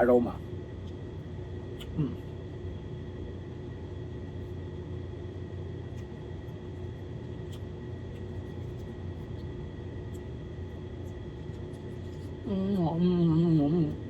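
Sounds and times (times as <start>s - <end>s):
appliance hum: 0.0s - 14.0s.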